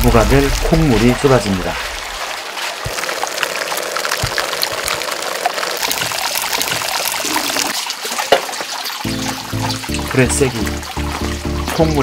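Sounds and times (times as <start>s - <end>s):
liquid pouring and splashing: 0.0s - 12.0s.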